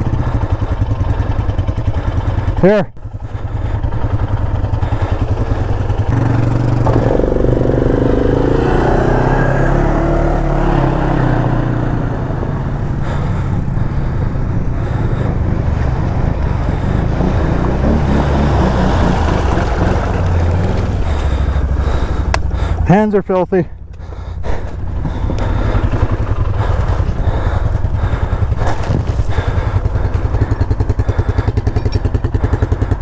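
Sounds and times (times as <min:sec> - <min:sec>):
quad engine revving: 0:00.0 - 0:33.0.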